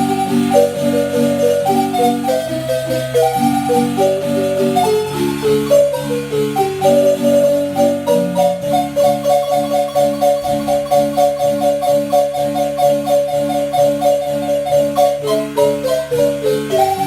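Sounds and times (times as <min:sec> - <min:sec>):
marimba melody: 0:00.0 - 0:17.0.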